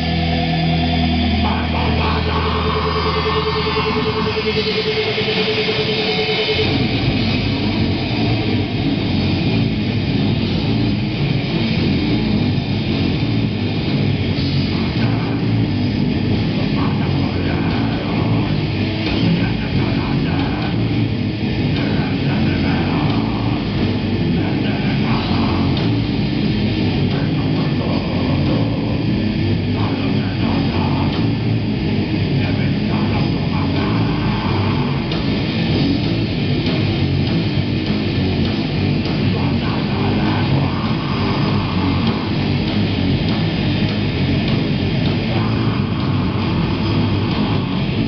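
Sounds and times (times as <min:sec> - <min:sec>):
heavy metal band playing live: 0:00.0 - 0:48.0.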